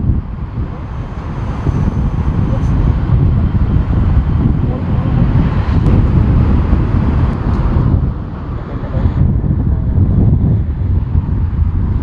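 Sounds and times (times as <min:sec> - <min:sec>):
jet airliner engine noise: 0:00.0 - 0:12.0
wind buffeting microphone: 0:00.0 - 0:12.0.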